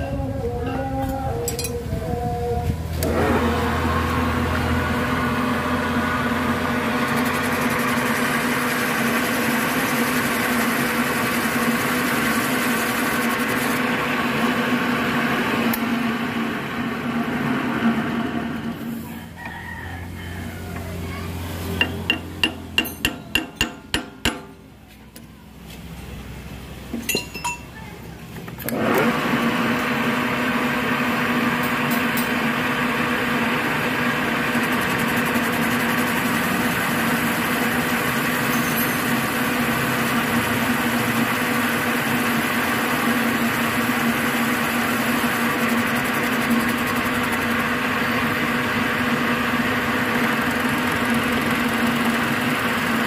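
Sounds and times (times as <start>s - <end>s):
boring machine whining: 0.0s - 23.6s, 28.5s - 53.0s.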